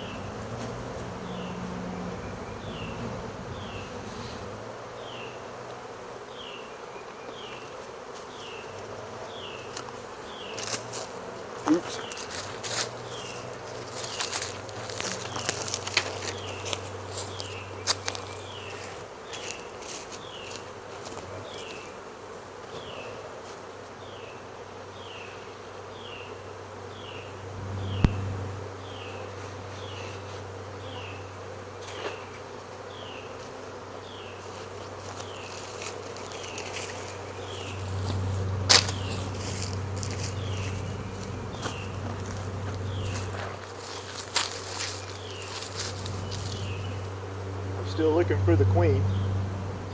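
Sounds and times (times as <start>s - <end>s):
bee swarm buzzing: 0.0s - 49.9s.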